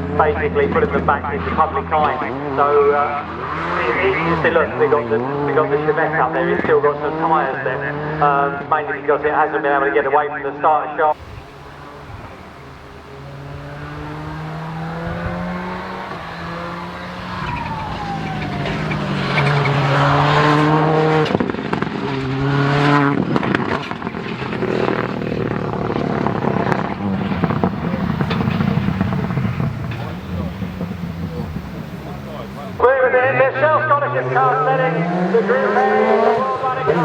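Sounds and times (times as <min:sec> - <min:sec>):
rally car engine revving: 0:00.0 - 0:10.1, 0:11.1 - 0:37.0.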